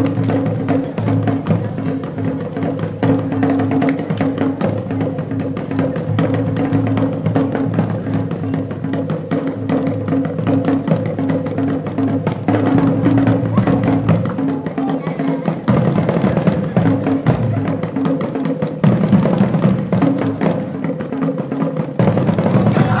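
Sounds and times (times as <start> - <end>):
sharp percussion strikes: 0.0 - 23.0.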